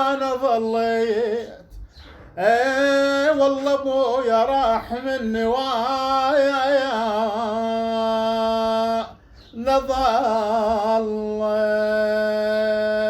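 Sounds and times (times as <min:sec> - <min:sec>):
man chanting a lament: 0:00.0 - 0:13.0.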